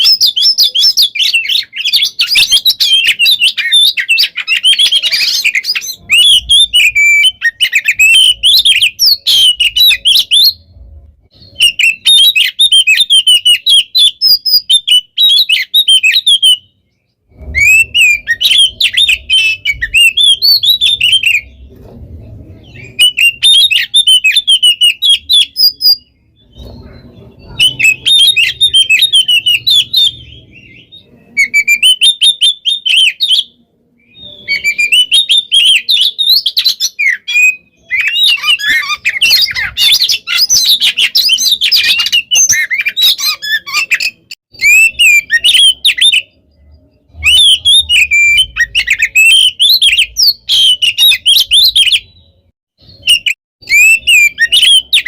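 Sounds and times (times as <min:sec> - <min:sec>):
bird singing high chirps and trills: 0:00.0 - 0:55.0.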